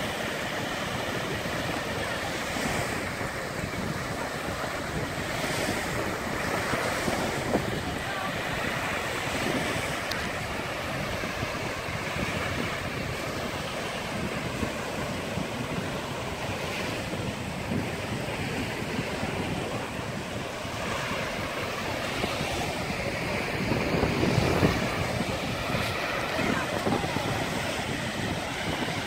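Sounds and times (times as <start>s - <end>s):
waves washing up beach: 0.0s - 29.0s
wind buffeting microphone: 0.0s - 29.0s.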